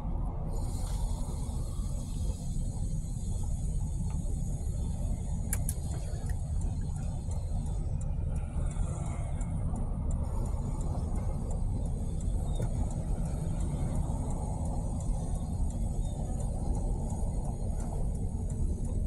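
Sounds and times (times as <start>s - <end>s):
vehicle engine and tyre rumble: 0.0s - 19.0s.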